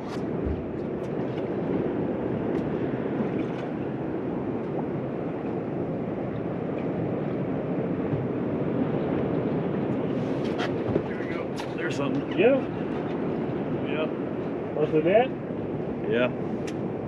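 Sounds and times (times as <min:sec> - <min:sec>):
wind and water rushing: 0:00.0 - 0:17.0.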